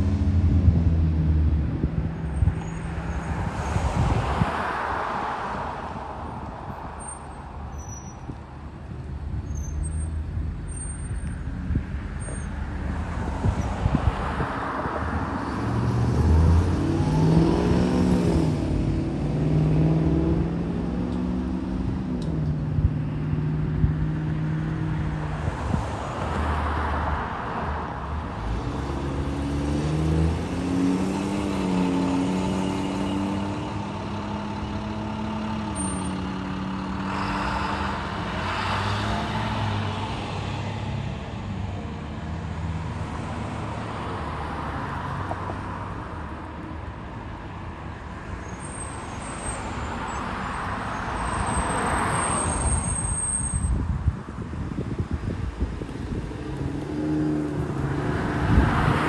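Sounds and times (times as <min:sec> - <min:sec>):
bus engines accelerating: 0:00.0 - 0:59.0.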